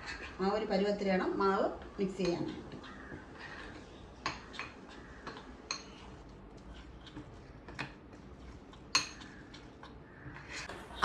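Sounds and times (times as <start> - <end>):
spoon stirring thick batter: 0.0 - 10.7.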